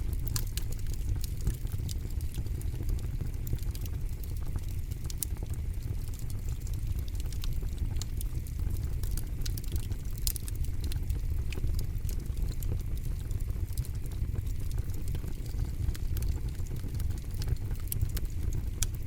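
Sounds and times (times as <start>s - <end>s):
campfire crackling and popping: 0.0s - 19.0s
low rumble of fire: 0.0s - 19.0s.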